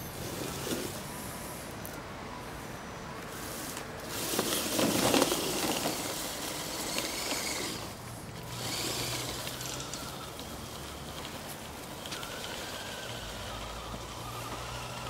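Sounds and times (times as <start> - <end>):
toy truck motor and gear whine: 0.0 - 2.0, 3.3 - 15.0.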